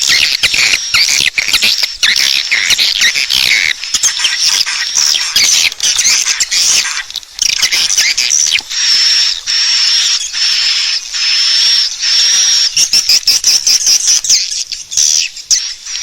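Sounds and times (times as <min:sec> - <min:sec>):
swiftlet chirping and twittering: 0:00.0 - 0:16.0.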